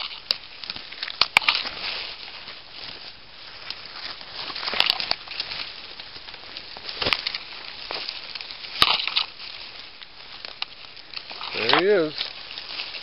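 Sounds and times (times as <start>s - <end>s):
branches scraping clothing: 0.0s - 13.0s
footsteps through dry leaves: 0.0s - 13.0s.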